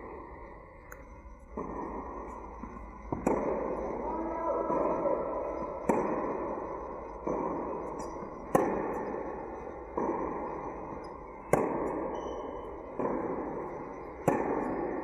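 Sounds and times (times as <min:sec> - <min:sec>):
distant racket hits: 0:01.6 - 0:15.0
racket hitting tennis ball: 0:02.9 - 0:15.0.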